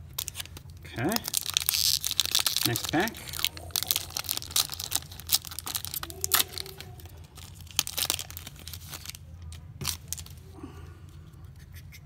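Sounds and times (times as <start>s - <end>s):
foil wrapper tearing and crinkling: 0.0s - 10.4s.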